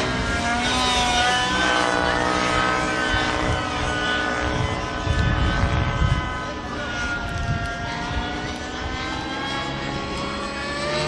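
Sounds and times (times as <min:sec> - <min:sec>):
model helicopter rotor whine: 0:00.0 - 0:11.0.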